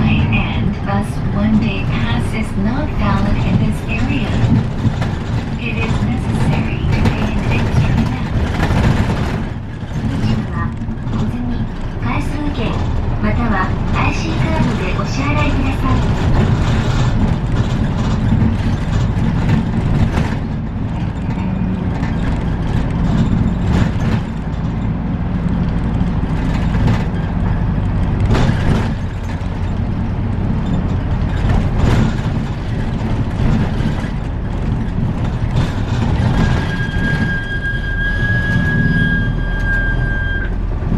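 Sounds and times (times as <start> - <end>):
bus diesel engine running: 0.0 - 40.9
knocks and rattles: 0.0 - 40.9.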